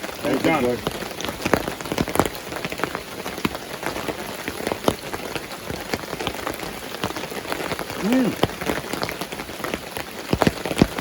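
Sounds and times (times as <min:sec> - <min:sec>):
heavy rain on shelter roof: 0:00.0 - 0:11.0
sharp raindrops striking: 0:00.0 - 0:11.0.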